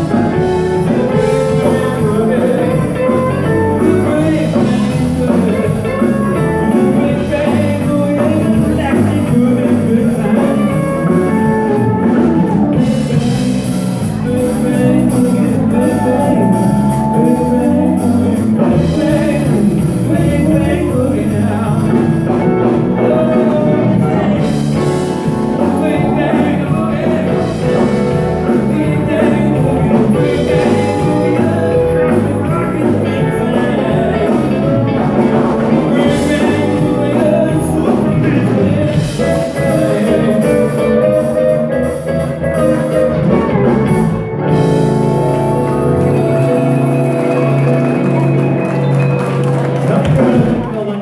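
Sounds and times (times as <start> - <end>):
bass guitar: 0.0 - 51.0
drums: 0.0 - 51.0
electric guitars: 0.0 - 51.0
person singing: 0.0 - 51.0.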